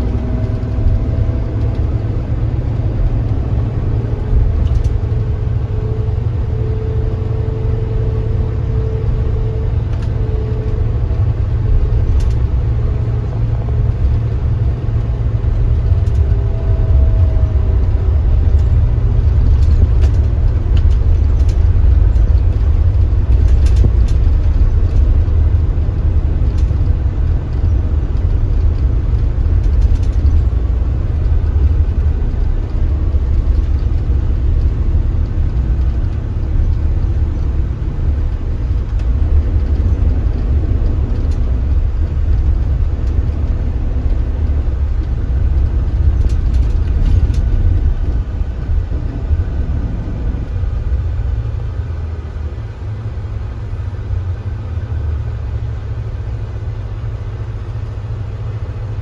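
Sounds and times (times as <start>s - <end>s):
coach engine and road rumble: 0.0s - 59.0s
faint whine: 0.0s - 59.0s.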